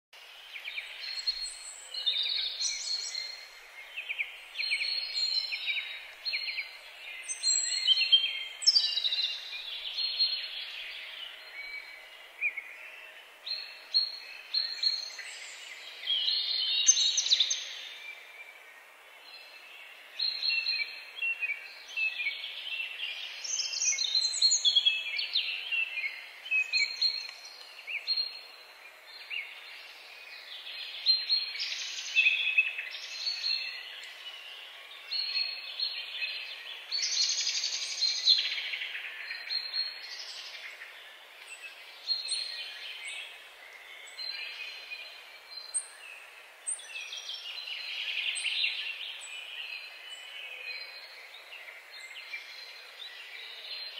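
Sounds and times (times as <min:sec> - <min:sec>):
faint steady hiss: 0:00.2 - 0:53.9
songbirds chirping and singing: 0:00.2 - 0:53.9.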